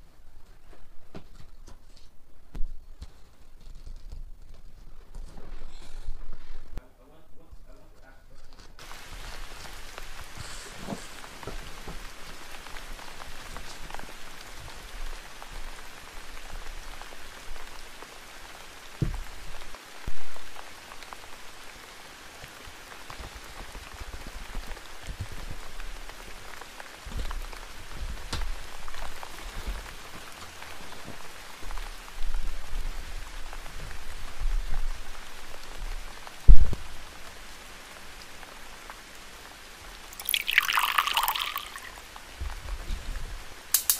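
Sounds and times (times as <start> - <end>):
steady rain: 8.5 - 43.9.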